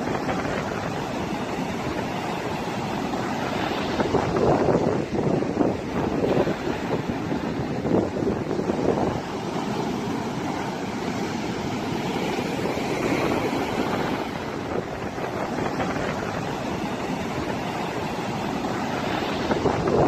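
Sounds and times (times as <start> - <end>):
surf breaking on a beach: 0.0 - 20.0.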